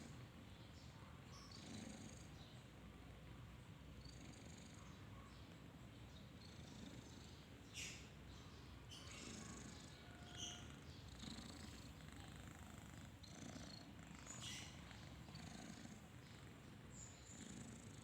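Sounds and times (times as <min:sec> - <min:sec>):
cat snoring softly: 0:01.4 - 0:05.3, 0:06.2 - 0:08.1, 0:08.8 - 0:18.0.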